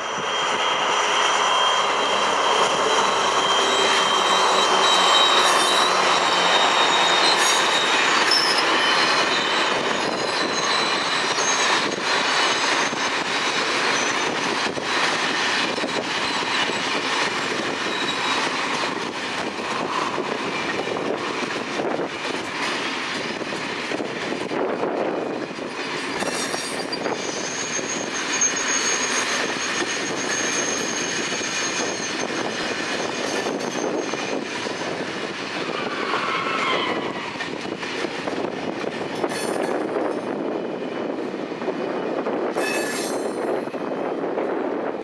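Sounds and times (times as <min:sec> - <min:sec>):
high wheel squeal: 0:00.0 - 0:24.5, 0:25.2 - 0:41.3, 0:42.0 - 0:43.8
train wheels on rails: 0:00.0 - 0:45.0.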